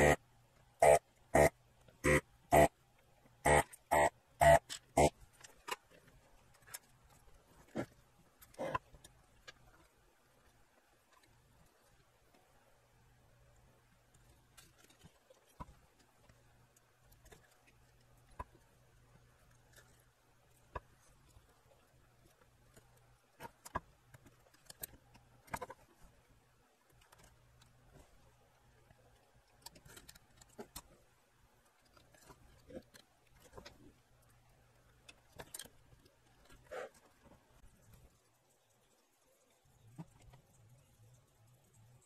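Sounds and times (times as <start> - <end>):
faint low hum: 0.0 - 42.0.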